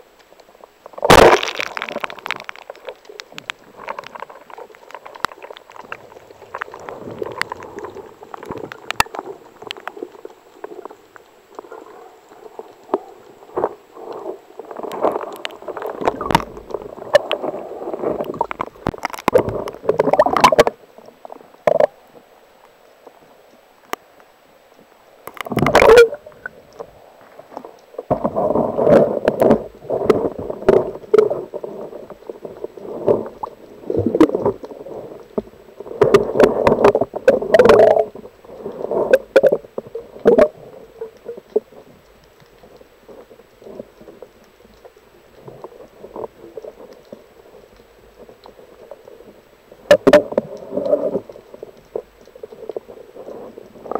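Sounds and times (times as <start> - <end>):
underwater gurgling and sloshing: 0.0 - 53.9.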